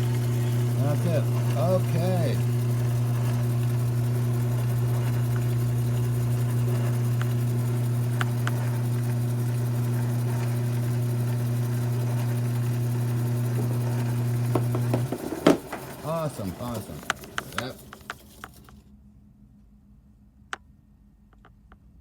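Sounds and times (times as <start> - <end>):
lathe motor humming: 0.0 - 18.8.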